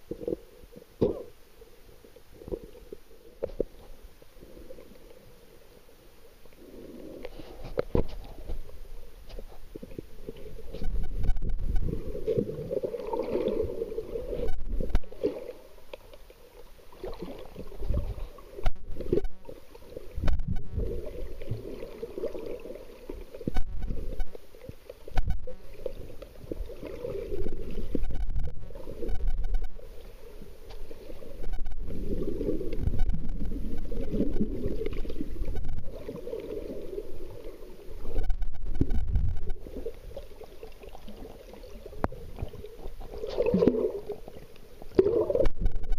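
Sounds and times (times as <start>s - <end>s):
muffled underwater rumble: 0.0s - 45.9s.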